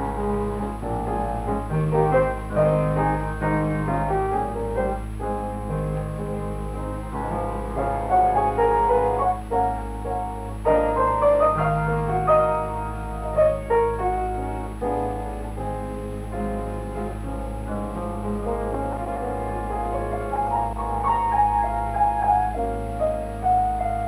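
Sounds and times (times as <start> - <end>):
lively piano music: 0.0 - 24.0
steady low hum: 0.0 - 24.0.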